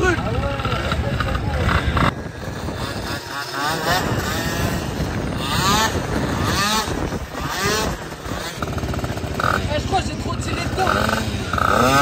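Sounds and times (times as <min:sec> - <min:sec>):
two-stroke scooter engine revving: 0:00.0 - 0:12.0.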